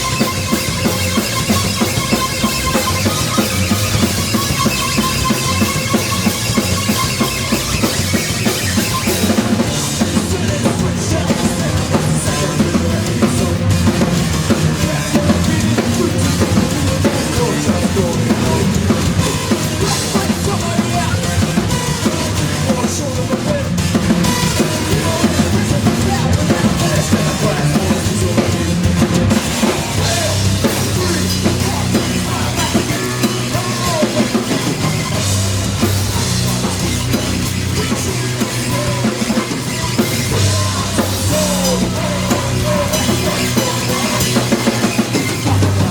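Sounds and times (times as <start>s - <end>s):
bass drum: 0.0s - 45.9s
live rock band playing: 0.0s - 45.9s.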